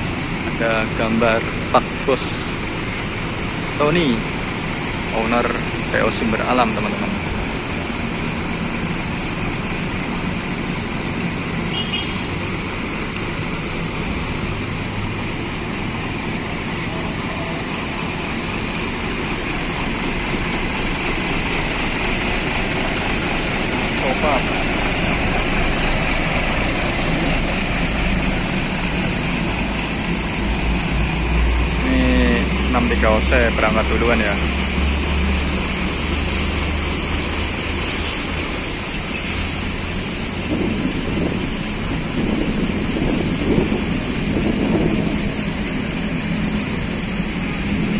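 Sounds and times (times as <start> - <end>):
diesel engines idling: 0.0 - 47.9.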